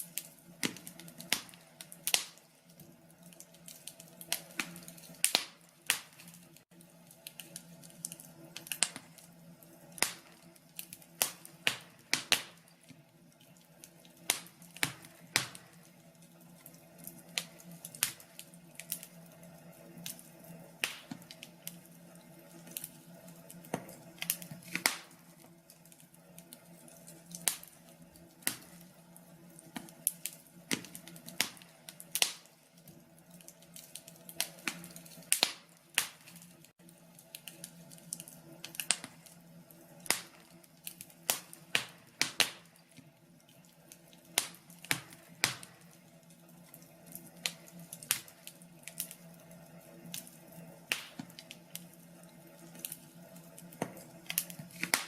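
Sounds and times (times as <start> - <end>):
faint steady hum: 0.0 - 55.0
wood fire crackling: 0.0 - 55.0.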